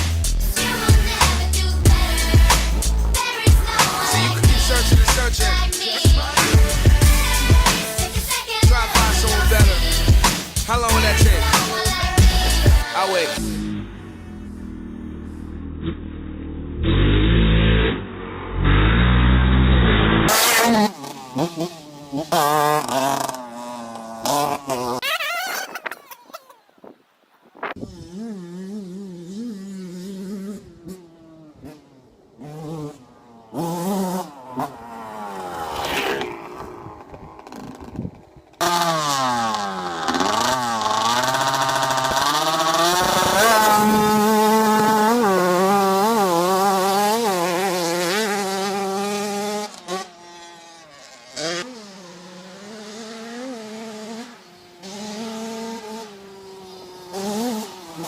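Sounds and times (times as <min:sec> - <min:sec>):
small motorcycle engine revving: 0:00.0 - 0:26.5, 0:27.6 - 0:58.0.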